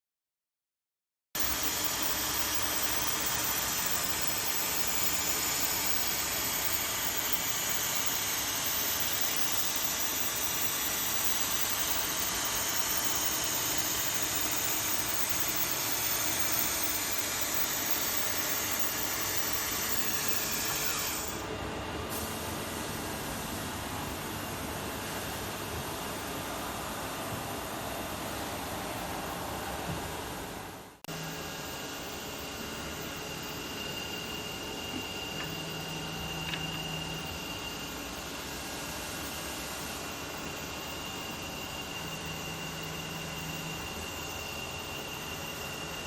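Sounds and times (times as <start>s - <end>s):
milling machine hissing: 1.4s - 46.0s.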